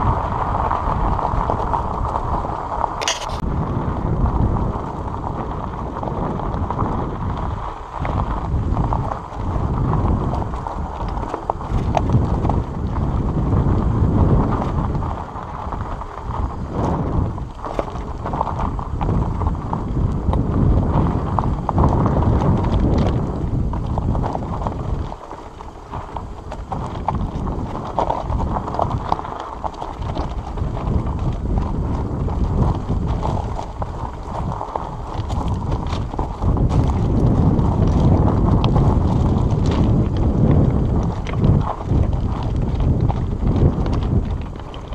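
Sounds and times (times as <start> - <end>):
bicycle rattling: 0.0 - 44.9
bicycle tyres crunching on gravel: 0.0 - 44.9
wind buffeting microphone: 0.0 - 44.9.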